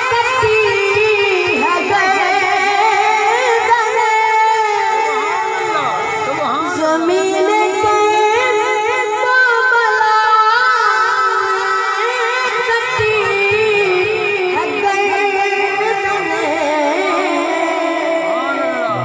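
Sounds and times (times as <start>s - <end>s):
boy singing unaccompanied: 0.0s - 19.0s.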